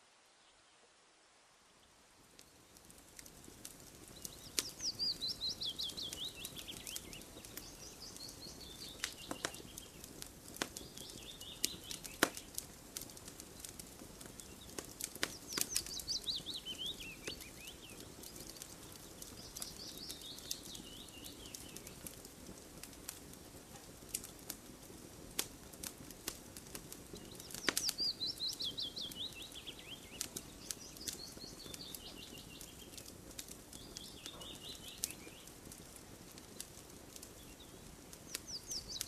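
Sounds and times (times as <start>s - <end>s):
campfire crackling and popping: 2.1s - 39.0s.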